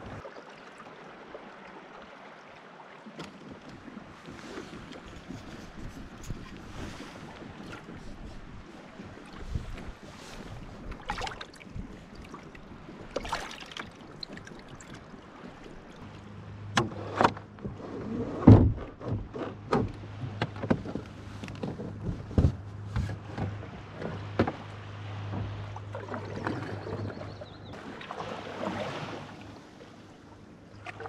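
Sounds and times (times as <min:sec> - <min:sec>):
water lapping at hull: 0:00.0 - 0:31.0
knocks and splashes: 0:03.0 - 0:30.0, 0:30.7 - 0:31.0.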